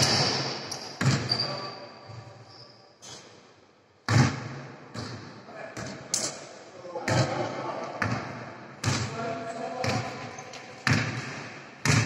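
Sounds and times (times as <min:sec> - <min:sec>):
basketball bouncing on indoor court: 0:00.0 - 0:02.5, 0:04.0 - 0:06.3, 0:07.0 - 0:12.0.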